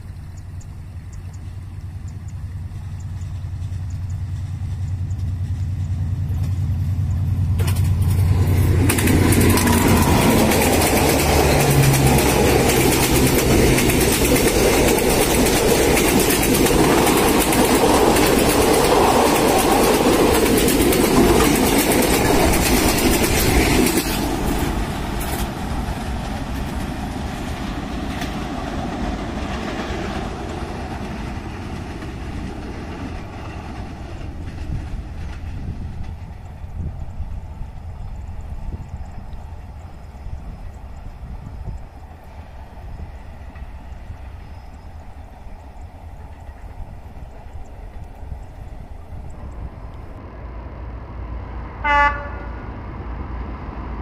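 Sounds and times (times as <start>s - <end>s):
train wheels on rails: 0.0s - 50.3s
diesel locomotive engine hum: 0.0s - 54.0s.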